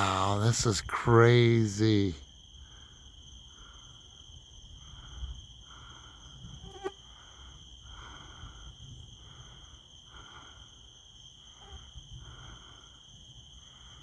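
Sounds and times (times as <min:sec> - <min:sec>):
crickets droning: 0:00.0 - 0:14.0
soft pulsing insect call: 0:00.0 - 0:14.0.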